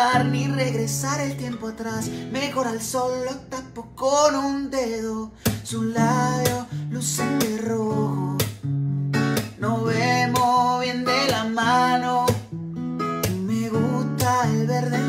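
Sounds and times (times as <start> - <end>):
man singing: 0.0 - 8.6, 9.4 - 12.5, 13.2 - 15.0
acoustic guitar strumming: 0.0 - 15.0.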